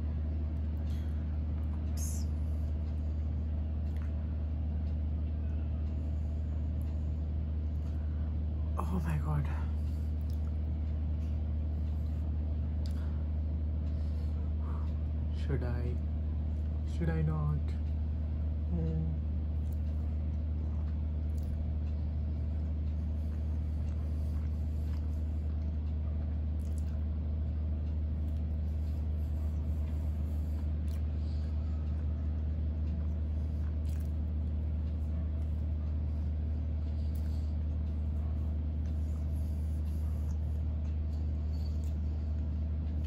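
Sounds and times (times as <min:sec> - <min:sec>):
faint chewing and mouth clicks: 0:00.0 - 0:15.3, 0:17.8 - 0:43.0
steady low hum: 0:00.0 - 0:43.0.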